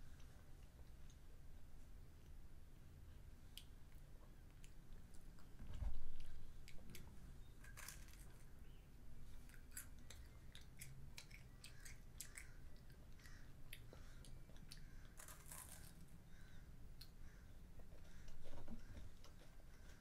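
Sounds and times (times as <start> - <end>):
child chewing sweets: 0.0 - 20.0.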